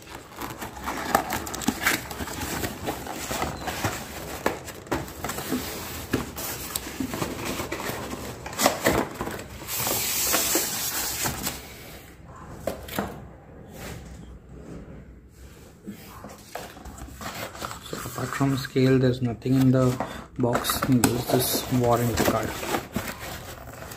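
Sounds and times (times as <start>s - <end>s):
cardboard and polystyrene handling: 0.0s - 11.8s, 16.0s - 23.9s.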